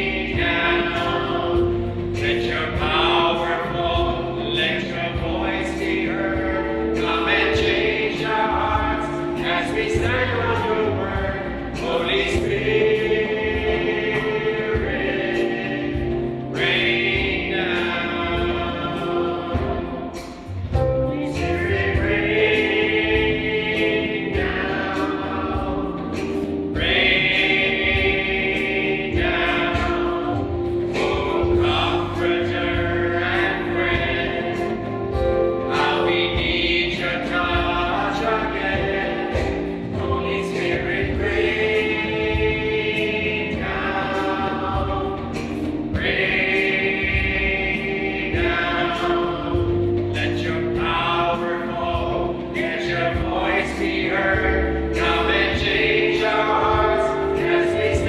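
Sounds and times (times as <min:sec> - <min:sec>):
group singing worship song: 0:00.0 - 0:58.0
instrumental accompaniment: 0:00.0 - 0:58.0.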